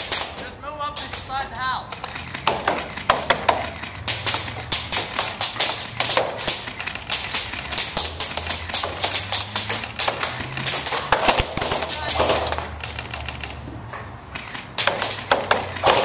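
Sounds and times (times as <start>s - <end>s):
airsoft guns firing: 0.0s - 13.1s, 14.4s - 16.0s.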